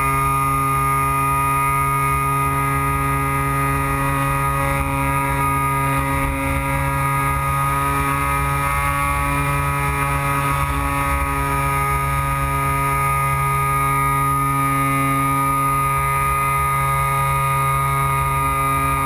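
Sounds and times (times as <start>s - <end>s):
electric motor and propeller whine: 0.0s - 19.0s.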